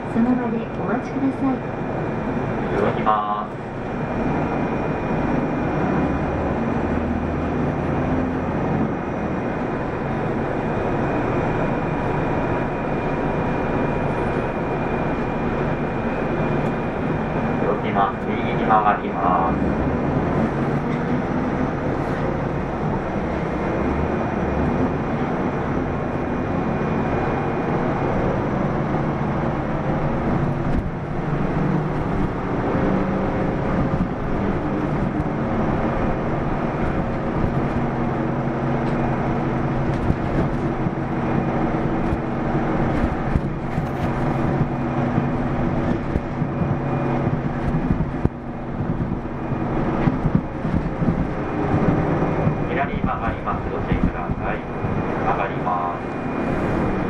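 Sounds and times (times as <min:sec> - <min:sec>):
bus diesel engine running: 0:00.0 - 0:57.0
road noise: 0:00.0 - 0:57.0.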